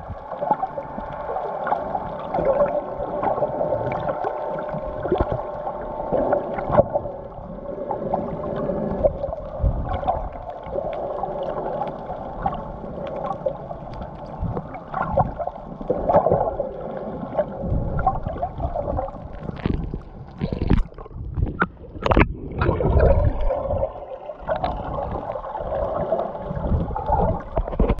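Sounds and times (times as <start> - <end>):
splashing and bubbling: 0.0 - 28.0
steady underwater hum: 0.0 - 28.0
underwater water movement and bubbles: 0.0 - 28.0.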